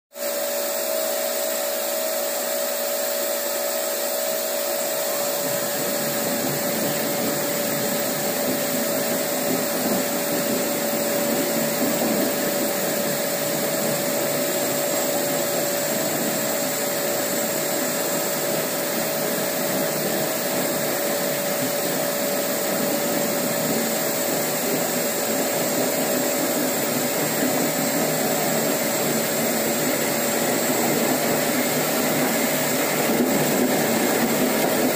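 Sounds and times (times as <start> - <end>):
floor grinder whining hum: 0.2 - 34.9.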